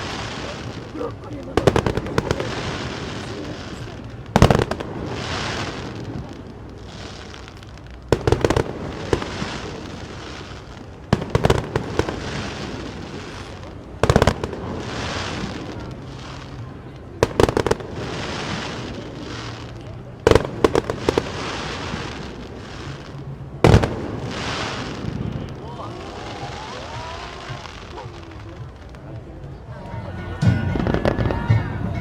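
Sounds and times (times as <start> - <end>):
fireworks bangs with hiss: 0.0 - 29.8, 30.5 - 32.0.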